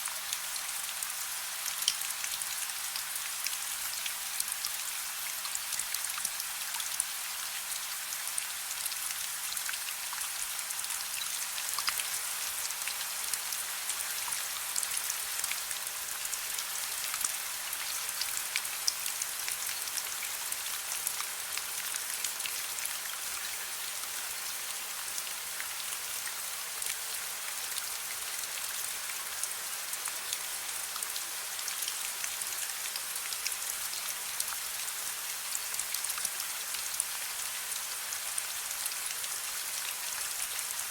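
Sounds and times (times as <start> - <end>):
soft rain hissing: 0.0 - 40.9.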